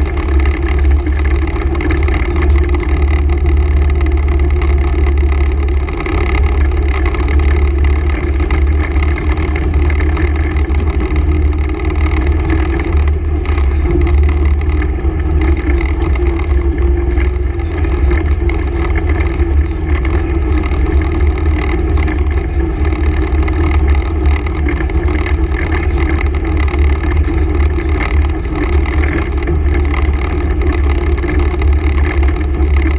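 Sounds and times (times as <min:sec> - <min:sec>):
atv engine running: 0:00.0 - 0:32.9.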